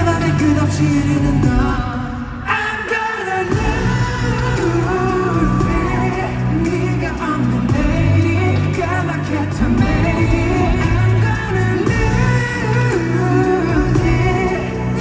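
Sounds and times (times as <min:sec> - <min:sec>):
backing track with bass: 0:00.0 - 0:02.0, 0:03.5 - 0:15.0
man singing pop song: 0:00.0 - 0:15.0.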